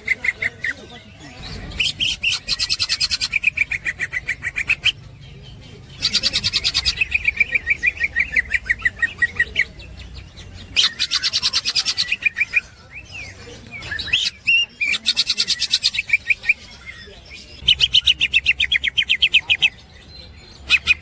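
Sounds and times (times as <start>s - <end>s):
bird chattering song: 0.0s - 21.0s.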